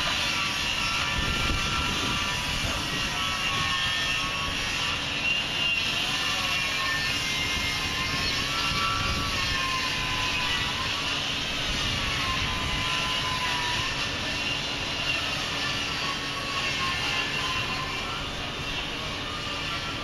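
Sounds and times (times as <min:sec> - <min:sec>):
pile-driving machinery running: 0:00.0 - 0:20.0
wavering machine whine: 0:00.0 - 0:20.0.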